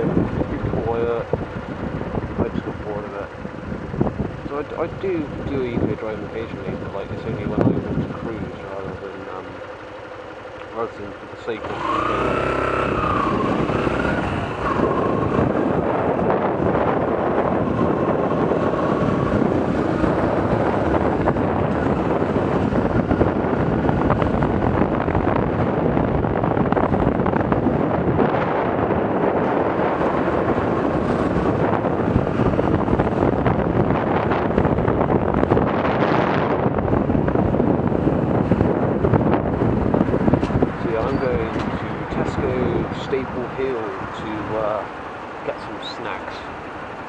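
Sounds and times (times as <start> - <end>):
faint motorcycle engine: 0.0 - 47.0
wind buffeting microphone: 0.0 - 47.0.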